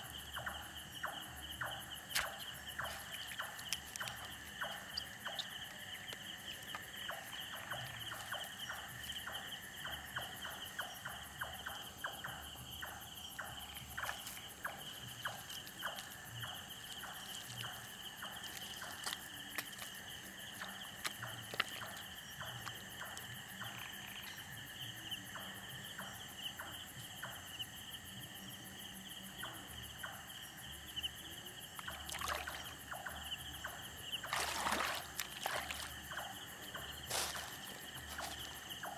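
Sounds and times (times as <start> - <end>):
crickets and insects trilling: 0.0 - 38.9.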